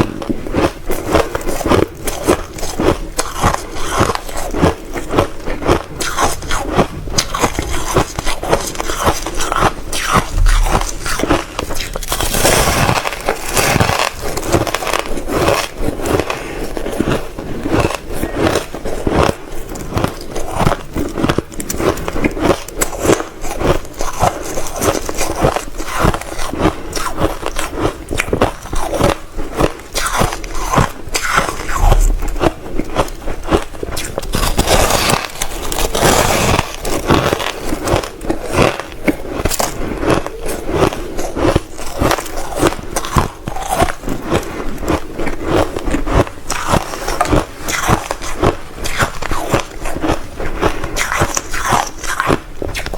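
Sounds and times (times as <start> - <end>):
crunching ice being chewed: 0.0 - 52.9.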